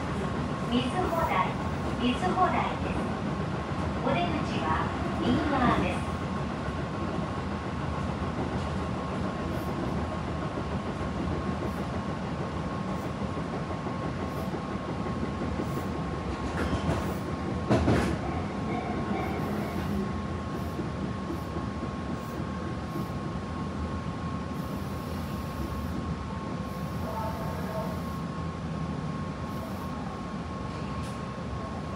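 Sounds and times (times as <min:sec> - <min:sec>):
train wheel and track noise: 0:00.0 - 0:31.9.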